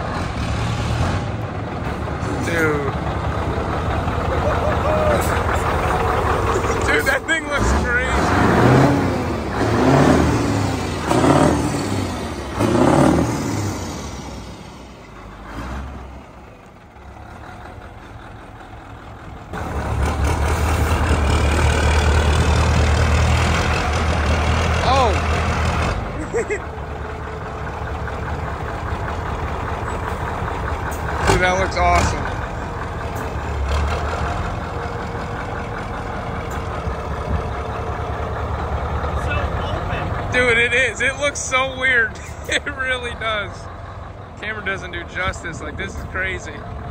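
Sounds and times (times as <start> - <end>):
loud low engine rumble: 0.0 - 46.9
truck diesel engine revving: 0.0 - 46.9.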